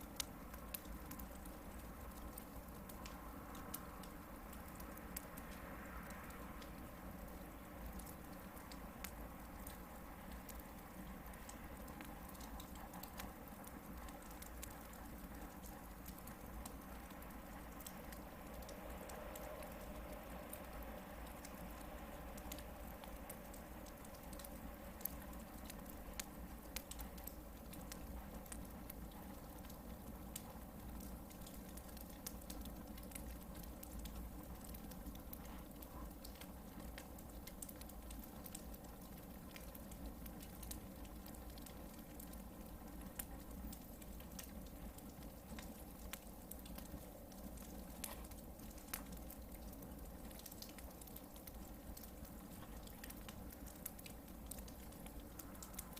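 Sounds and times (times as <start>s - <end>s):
campfire crackling and popping: 0.0s - 55.9s
low steady hiss: 0.0s - 55.9s.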